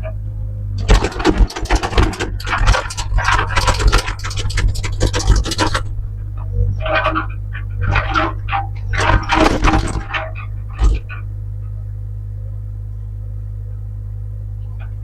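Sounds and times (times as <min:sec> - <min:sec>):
scraping and crackling: 0:00.0 - 0:12.3
heavy equipment engine running: 0:00.0 - 0:15.0.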